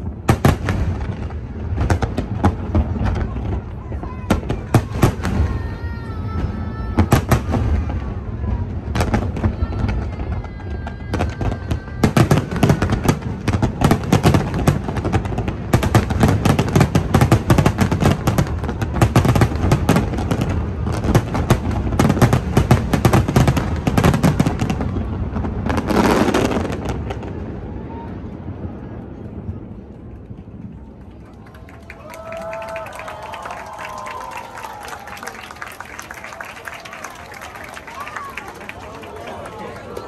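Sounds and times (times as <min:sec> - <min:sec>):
fireworks crackling and banging: 0:00.0 - 0:40.0.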